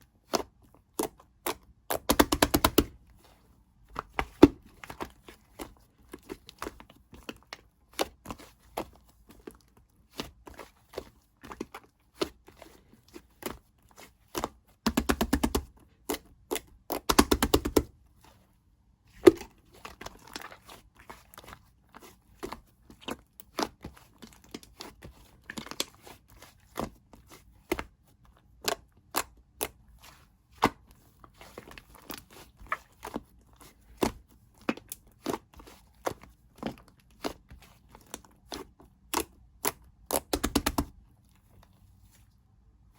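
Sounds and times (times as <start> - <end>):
slime kneaded by hand: 0.1 - 18.0, 19.1 - 42.3.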